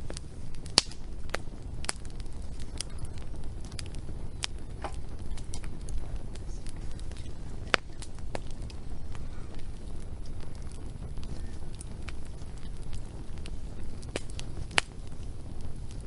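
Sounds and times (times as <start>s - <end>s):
low steady rumble: 0.0s - 16.0s
wood fire pops and snaps: 0.0s - 16.0s.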